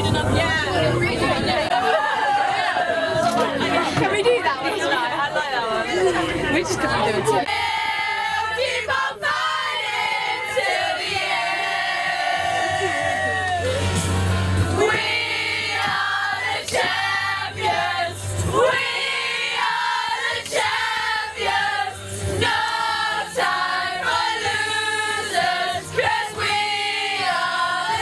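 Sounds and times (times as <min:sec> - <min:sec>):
group of people singing: 0:00.0 - 0:28.0
music: 0:00.0 - 0:28.0.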